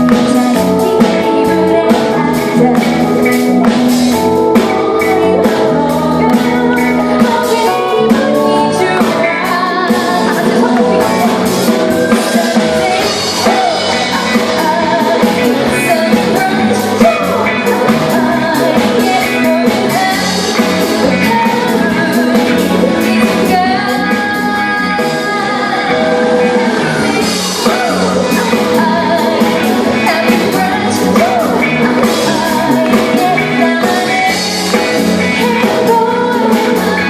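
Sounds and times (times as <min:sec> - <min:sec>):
bass line: 0:00.0 - 0:37.0
drum kit steady beat: 0:00.0 - 0:37.0
held chords: 0:00.0 - 0:37.0
person singing: 0:00.0 - 0:37.0.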